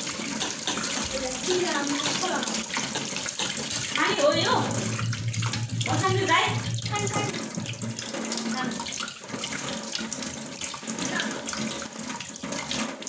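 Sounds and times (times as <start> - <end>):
tap water splashing over hands: 0.0 - 13.0.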